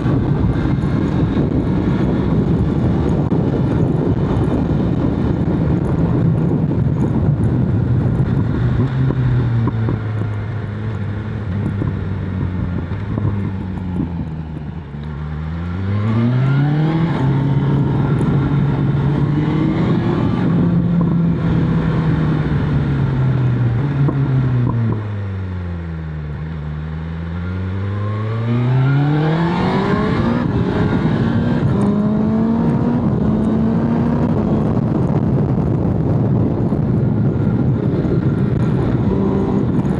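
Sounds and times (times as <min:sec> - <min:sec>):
motorcycle engine and exhaust: 0:00.0 - 0:39.9
wind rush: 0:00.0 - 0:39.9.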